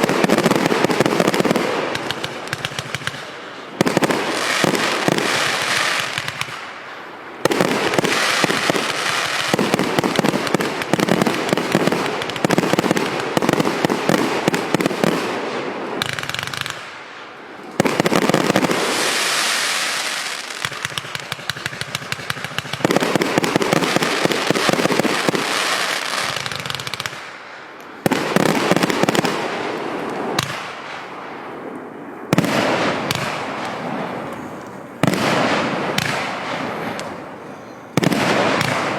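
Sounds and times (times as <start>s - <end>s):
firework volleys cracking: 0.0s - 38.9s.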